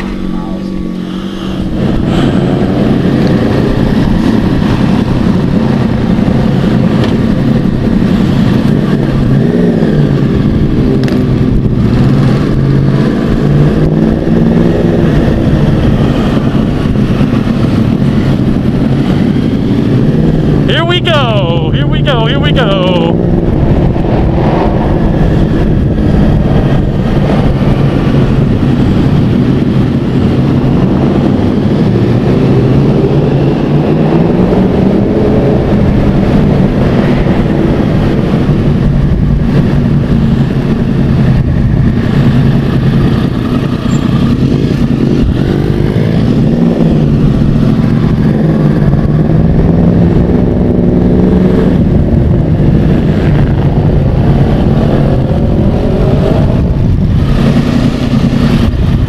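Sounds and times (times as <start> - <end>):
motorcycle engine running: 0.0 - 20.8, 22.6 - 59.0.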